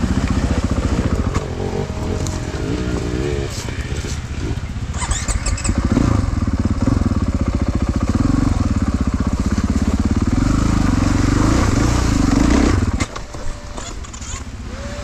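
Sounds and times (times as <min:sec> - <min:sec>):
motorcycle engine lugging: 0:00.0 - 0:15.0.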